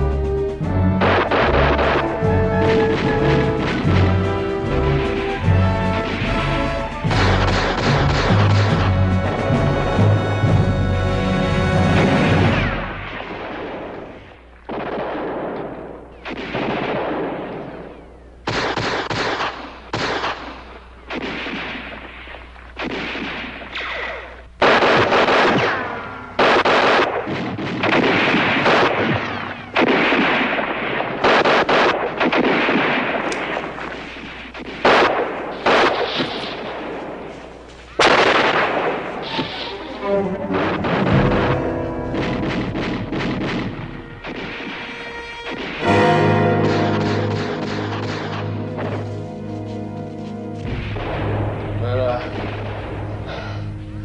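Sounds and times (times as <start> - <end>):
echoing gunshots: 0.9 - 10.2, 11.8 - 49.2, 50.6 - 53.7.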